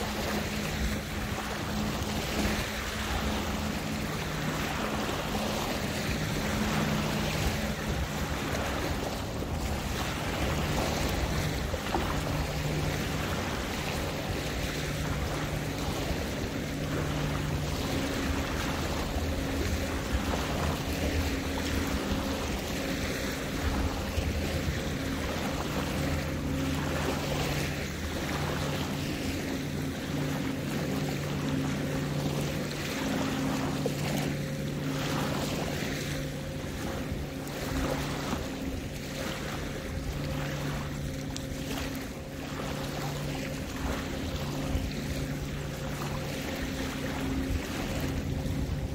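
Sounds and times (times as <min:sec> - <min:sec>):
boat motor humming: 0:00.0 - 0:48.9
water washing and splashing: 0:00.0 - 0:48.9.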